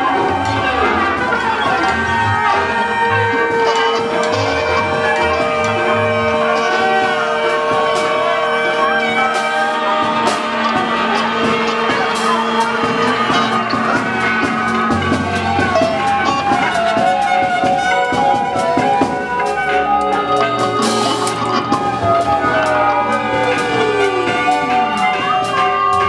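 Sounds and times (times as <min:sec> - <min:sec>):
accordion: 0:00.0 - 0:26.0
drum and cymbal strokes: 0:00.0 - 0:26.0
electric guitar: 0:00.0 - 0:26.0
saxophones: 0:00.0 - 0:26.0
trumpet: 0:00.0 - 0:26.0
violin: 0:00.0 - 0:26.0.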